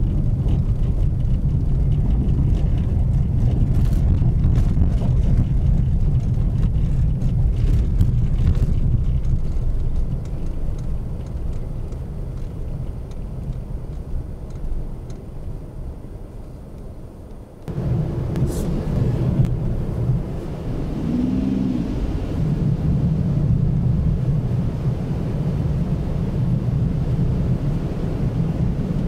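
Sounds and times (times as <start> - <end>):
car engine and tyre rumble on snow: 0.0 - 29.0.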